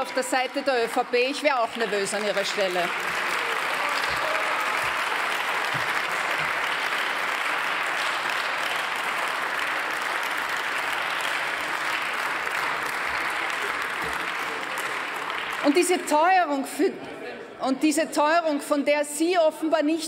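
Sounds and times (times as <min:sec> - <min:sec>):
many hands clapping: 0:00.0 - 0:16.5.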